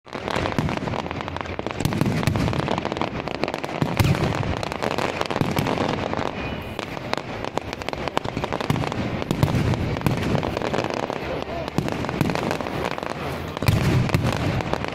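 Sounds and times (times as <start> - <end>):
fireworks crackling: 0.0 - 14.9
heavy firework booms: 0.1 - 14.9.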